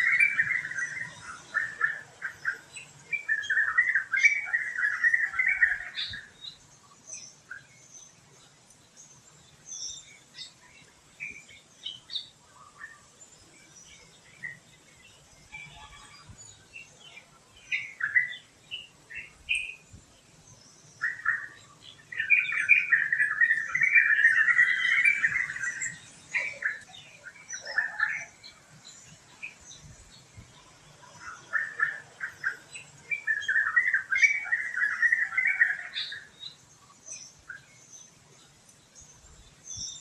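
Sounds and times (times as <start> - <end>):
birds chirping and singing: 0.0 - 40.0.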